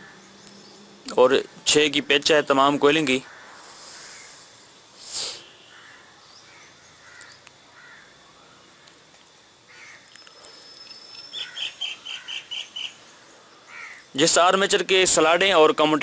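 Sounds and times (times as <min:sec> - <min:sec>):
birds chirping faintly: 0:00.0 - 0:09.0, 0:09.7 - 0:16.0.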